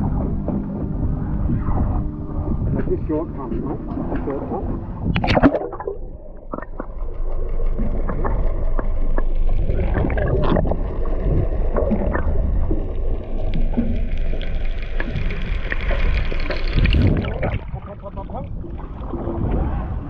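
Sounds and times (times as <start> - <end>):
water washing: 1.0 - 20.0.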